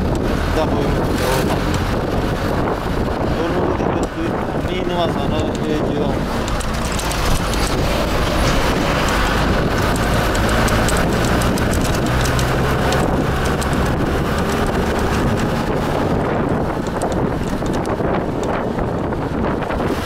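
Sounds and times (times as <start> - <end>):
light rattles: 0.0 - 19.2
vehicle engine and road rumble: 0.0 - 20.0
wind noise on microphone: 0.0 - 20.0.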